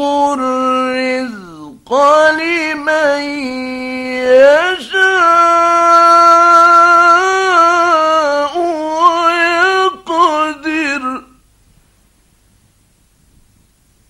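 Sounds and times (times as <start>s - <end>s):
man chanting melodically: 0.0s - 11.4s
faint hiss: 0.0s - 14.0s.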